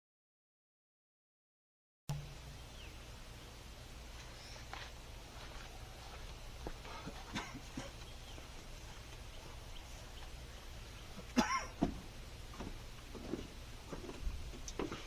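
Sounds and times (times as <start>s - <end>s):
low steady hum: 2.1s - 15.0s.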